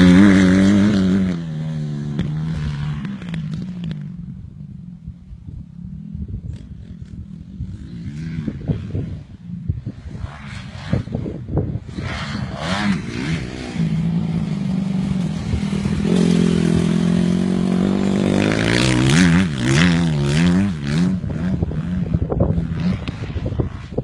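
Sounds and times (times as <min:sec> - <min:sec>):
motorcycle engine revving: 0:00.0 - 0:04.4, 0:05.9 - 0:24.0.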